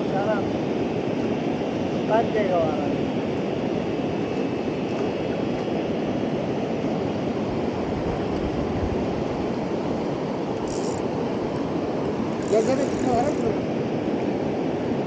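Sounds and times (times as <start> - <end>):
river water flowing: 0.1 - 15.0.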